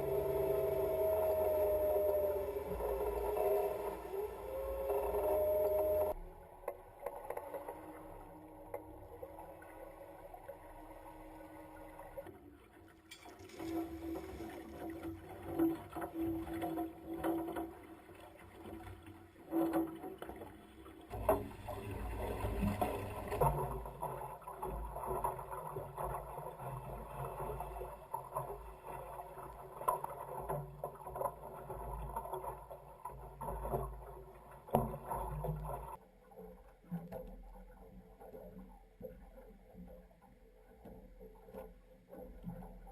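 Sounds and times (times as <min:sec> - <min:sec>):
boat hull and water noise: 0:00.0 - 0:42.9.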